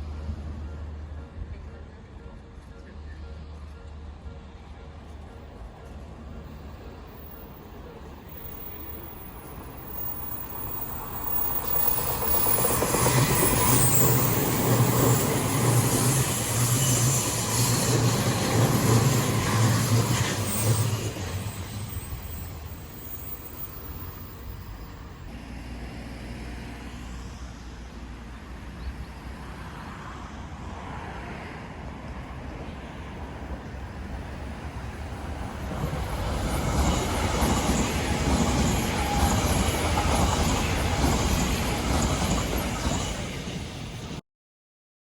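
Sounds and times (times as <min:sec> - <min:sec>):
electric train rumble passing: 0:00.0 - 0:44.2.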